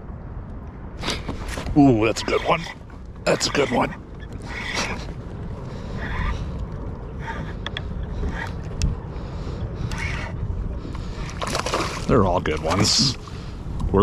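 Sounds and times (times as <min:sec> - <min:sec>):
wind rumbling on microphone: 0:00.0 - 0:14.0
water lapping against hull: 0:01.0 - 0:14.0.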